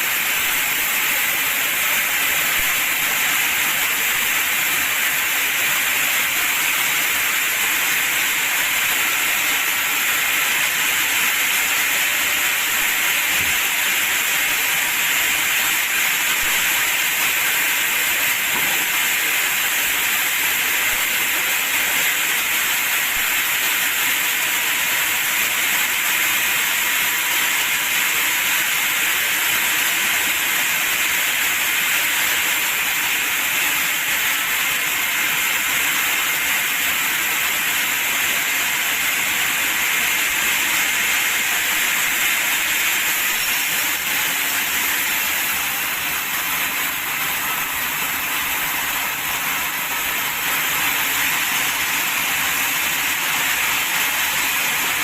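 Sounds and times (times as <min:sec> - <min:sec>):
sawmill machinery hissing: 0:00.0 - 0:55.0.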